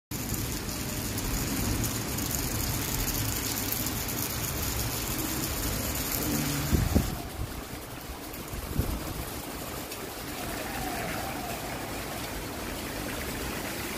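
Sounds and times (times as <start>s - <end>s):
steady rain: 0.1s - 13.9s.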